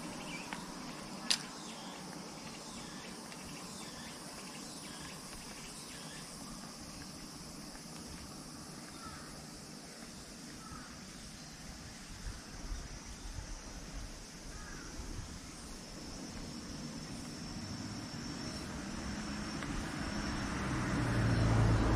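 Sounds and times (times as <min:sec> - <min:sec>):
insects chirring: 0:00.0 - 0:21.9.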